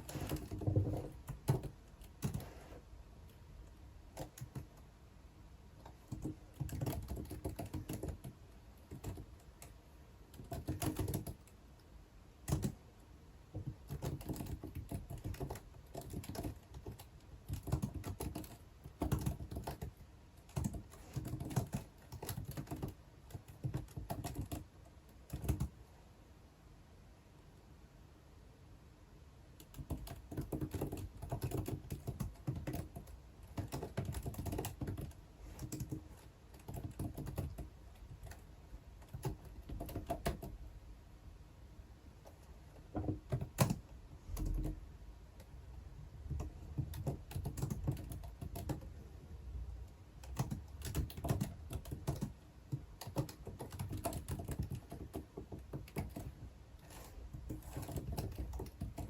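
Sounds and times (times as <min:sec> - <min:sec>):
typing on a computer keyboard: 0:00.0 - 0:03.4, 0:04.0 - 0:04.9, 0:05.8 - 0:12.9, 0:13.5 - 0:25.8, 0:29.6 - 0:40.6, 0:42.2 - 0:44.8, 0:46.3 - 0:49.0, 0:49.9 - 0:59.0.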